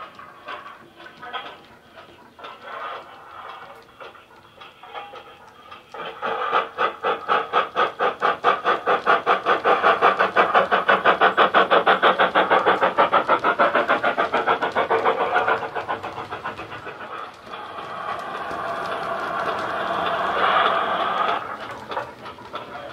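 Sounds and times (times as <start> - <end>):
steam locomotive chuffs from speaker: 0.0 - 22.9.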